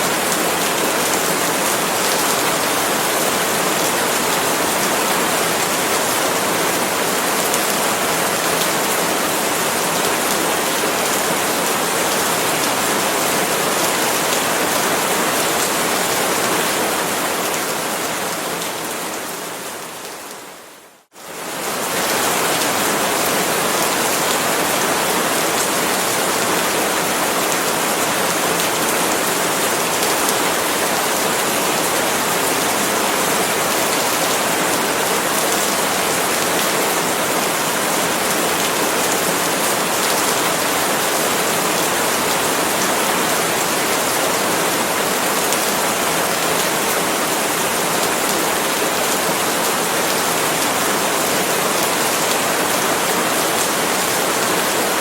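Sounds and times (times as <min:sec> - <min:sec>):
rain on leaves: 0:00.0 - 0:55.0.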